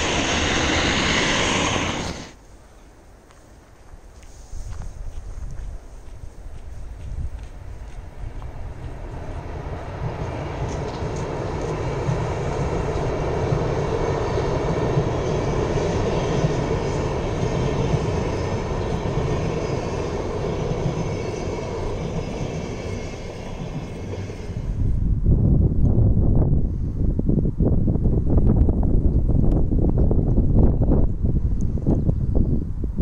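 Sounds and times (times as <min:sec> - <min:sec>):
train rumbling across steel bridge: 0:00.0 - 0:02.4, 0:05.3 - 0:32.8.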